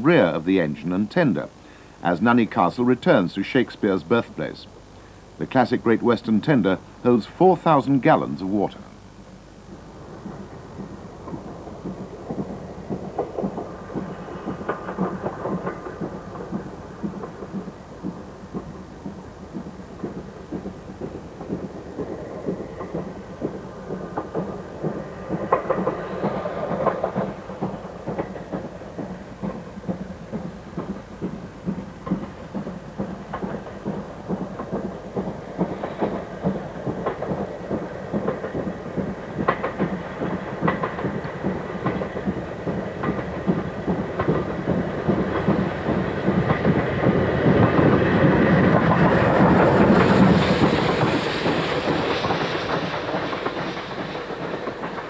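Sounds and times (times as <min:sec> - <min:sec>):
steam locomotive exhaust beating: 0:00.0 - 0:55.0.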